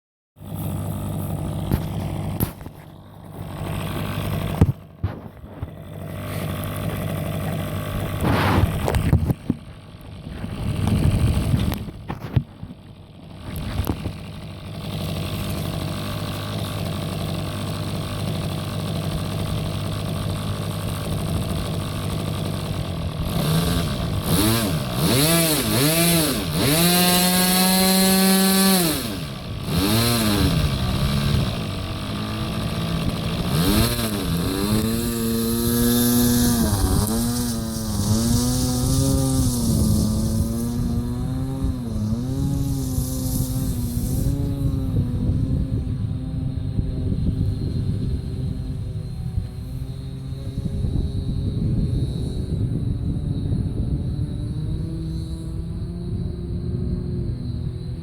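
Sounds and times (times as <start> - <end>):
model airplane engine revving: 0.4 - 58.0.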